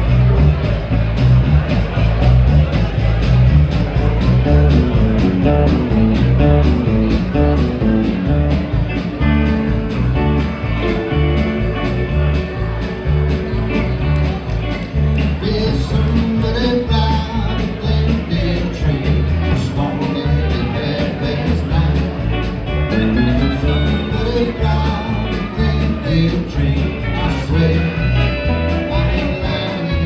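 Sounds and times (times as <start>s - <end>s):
bass: 0.0s - 30.0s
drums: 0.0s - 30.0s
electric guitar: 0.0s - 30.0s.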